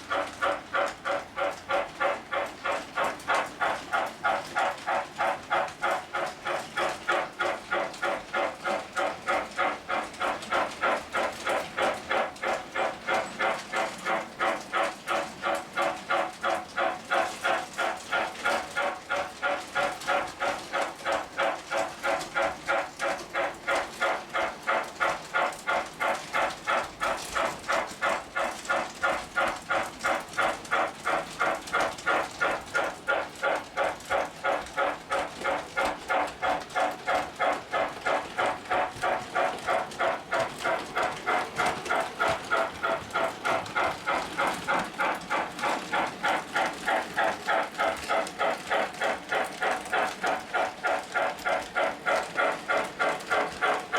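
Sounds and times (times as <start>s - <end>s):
model train running on track: 0.0s - 53.9s.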